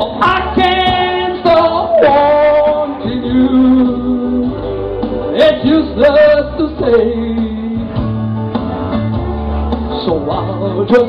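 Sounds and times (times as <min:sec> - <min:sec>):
person singing: 0:00.0 - 0:08.2, 0:09.8 - 0:11.0
slow country ballad backing track: 0:00.0 - 0:11.0.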